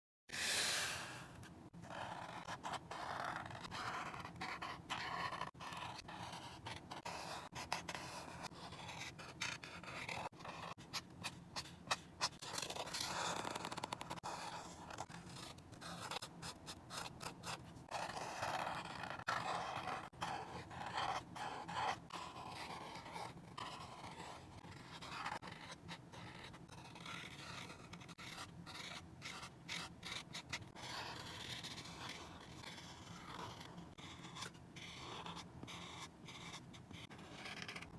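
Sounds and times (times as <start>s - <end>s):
drawing tool scratching paper: 0.3s - 37.9s.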